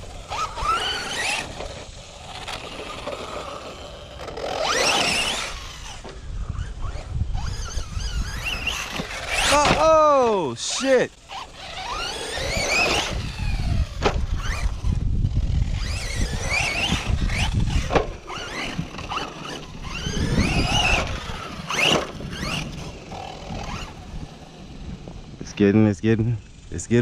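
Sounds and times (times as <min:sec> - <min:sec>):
electric motor whine: 0:00.0 - 0:25.4.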